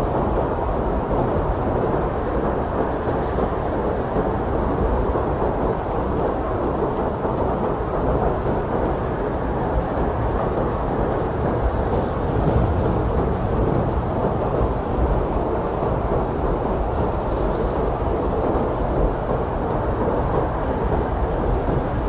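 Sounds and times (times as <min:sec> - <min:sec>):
strong blizzard wind blowing: 0:00.0 - 0:22.0.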